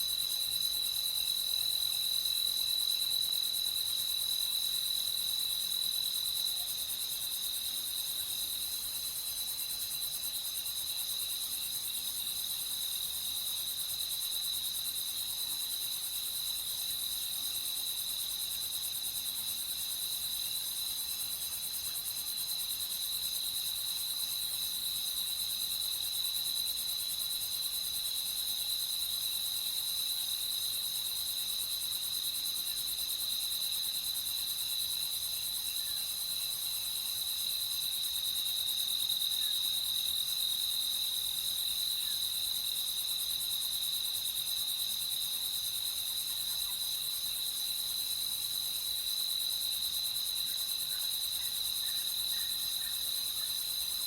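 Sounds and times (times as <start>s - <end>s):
high hiss of insects: 6.9s - 54.0s.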